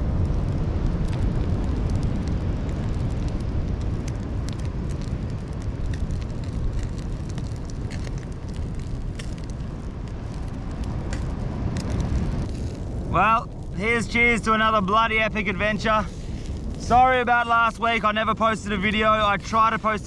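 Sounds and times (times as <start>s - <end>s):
campfire crackling and popping: 0.0s - 20.0s
steady low rumble: 0.0s - 20.0s.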